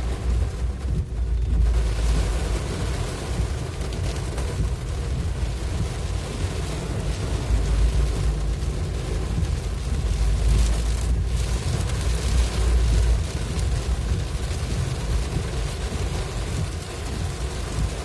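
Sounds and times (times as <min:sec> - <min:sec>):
heavy rain hissing: 0:00.0 - 0:18.0
road and wind noise: 0:00.0 - 0:18.0
vehicle driving rumble: 0:00.0 - 0:18.0.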